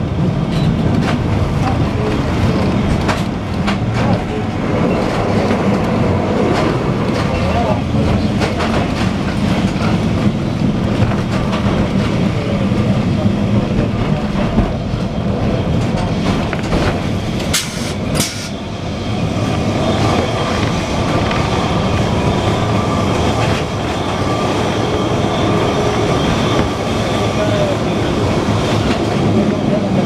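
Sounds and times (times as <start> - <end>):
tram wheels rumbling on rails: 0.0 - 30.0.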